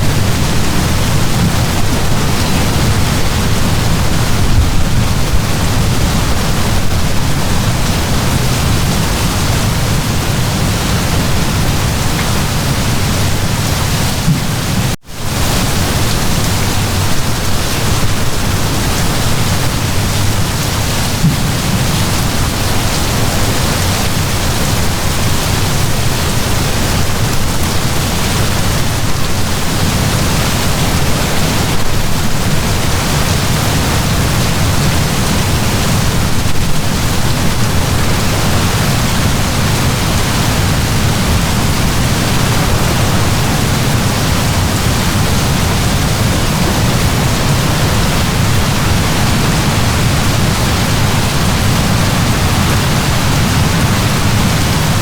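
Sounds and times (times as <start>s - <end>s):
heavy rain downpour: 0.0s - 55.0s.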